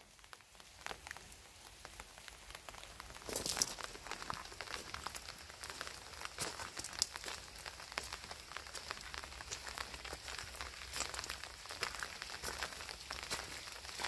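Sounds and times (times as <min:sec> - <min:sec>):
raindrops ticking: 0:00.0 - 0:14.0
soft rain patter: 0:00.0 - 0:14.0.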